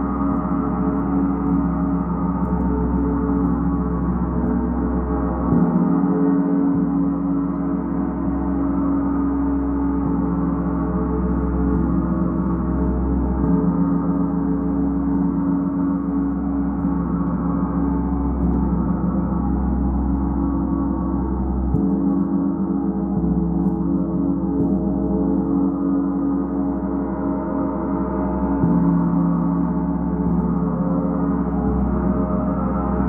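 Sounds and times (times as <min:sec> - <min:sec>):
large gong played with mallet: 0:00.0 - 0:33.0.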